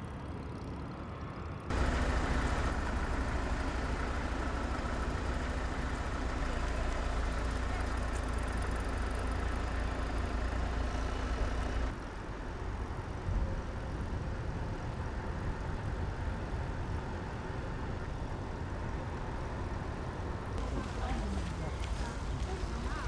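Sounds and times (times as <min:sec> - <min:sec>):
road and wind rumble: 0:00.0 - 0:23.0.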